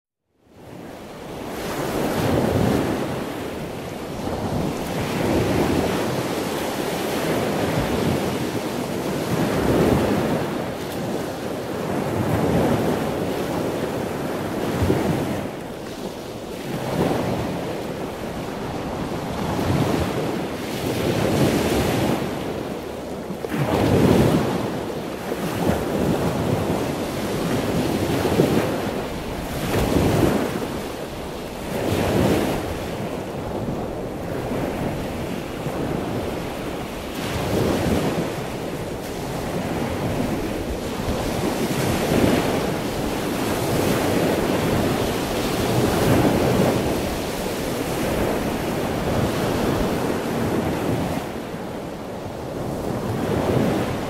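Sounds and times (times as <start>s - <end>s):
choppy sea rushing: 0.4s - 54.0s
boat wake churning: 0.6s - 54.0s
wind buffeting microphone: 0.6s - 54.0s.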